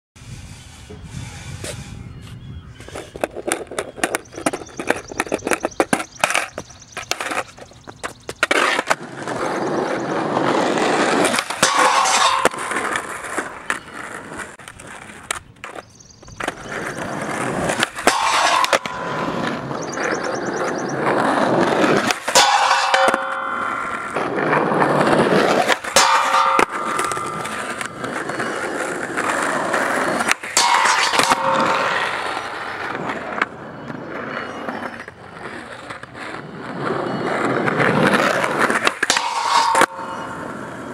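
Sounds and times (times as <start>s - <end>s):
skateboard wheels rolling on asphalt: 0.2s - 40.9s
skateboard clacking on landings: 2.8s - 40.9s
skateboard trucks grinding metal bar: 2.8s - 40.9s.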